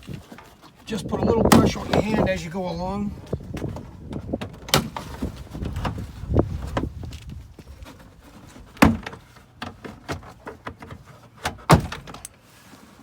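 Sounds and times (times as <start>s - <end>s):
plastic panel scraping: 0.0s - 13.0s.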